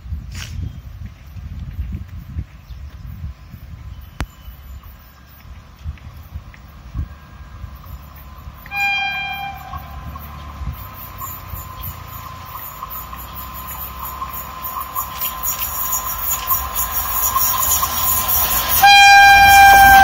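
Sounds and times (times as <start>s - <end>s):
train rumble and track noise: 0.0s - 20.0s.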